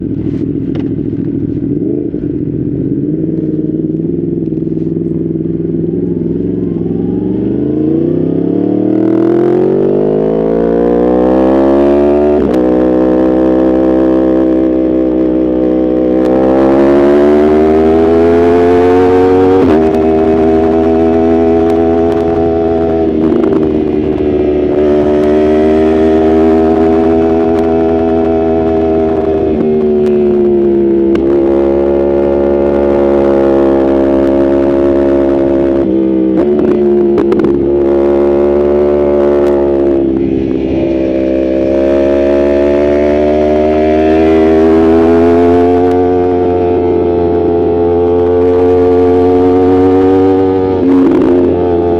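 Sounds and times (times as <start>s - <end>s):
motorcycle engine accelerating hard: 0.0s - 51.9s.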